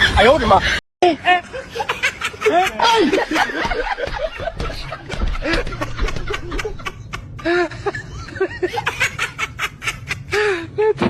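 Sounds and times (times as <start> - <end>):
high-pitched giggling laughter: 1.1 - 10.4.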